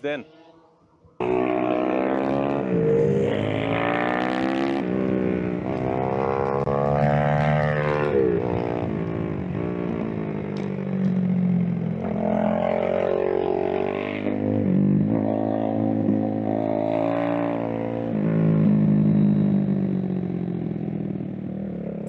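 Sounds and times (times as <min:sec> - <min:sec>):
motorbike engine revving: 0:00.2 - 0:22.0.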